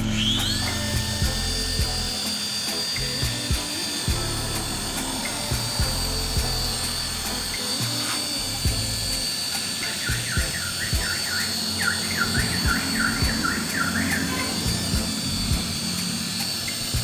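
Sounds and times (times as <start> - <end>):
music with regular beat: 0.0 - 17.0
toy helicopter motor whine: 0.0 - 17.0.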